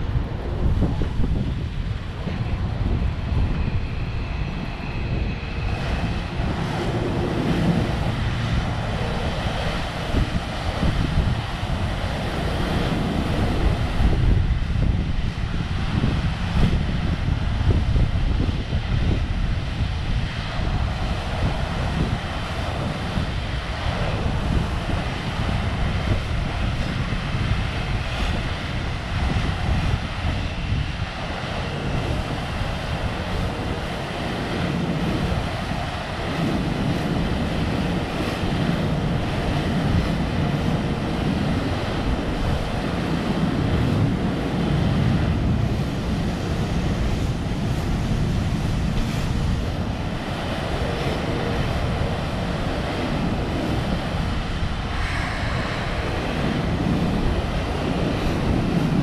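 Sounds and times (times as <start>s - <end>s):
train low rumble: 0.0s - 59.0s.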